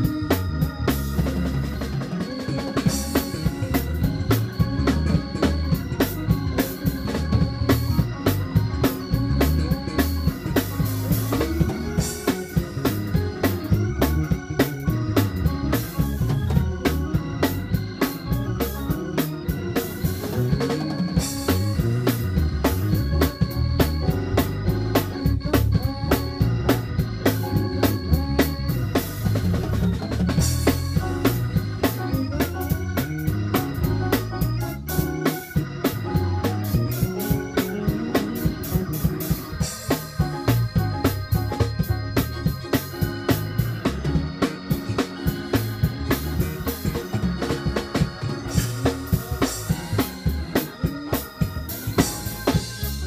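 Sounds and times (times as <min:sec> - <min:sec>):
drum kit: 0:00.0 - 0:53.0
electric bass: 0:00.0 - 0:53.0
keyboard: 0:00.0 - 0:53.0
organ chords: 0:00.0 - 0:53.0.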